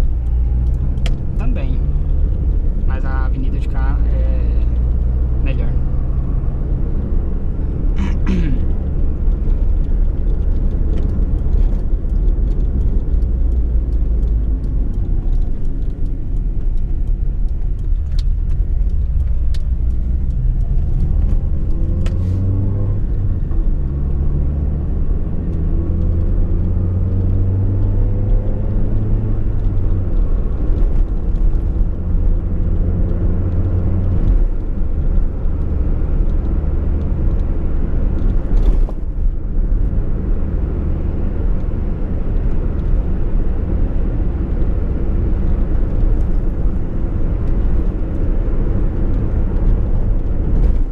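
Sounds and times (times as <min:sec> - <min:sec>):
car engine accelerating: 0:00.0 - 0:50.9
road noise: 0:00.0 - 0:50.9.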